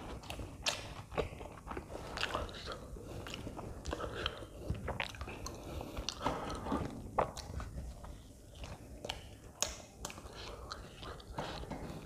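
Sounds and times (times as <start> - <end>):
chewing with wet mouth clicks: 0.0 - 12.0.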